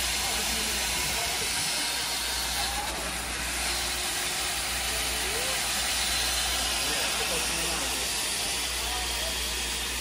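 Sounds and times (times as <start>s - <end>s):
steam locomotive hissing steam: 0.0s - 10.0s.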